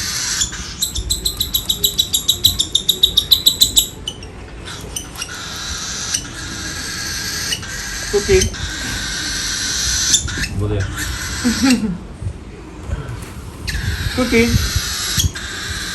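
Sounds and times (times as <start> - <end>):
baby bird begging chirps: 0.0 - 11.8, 13.2 - 15.9.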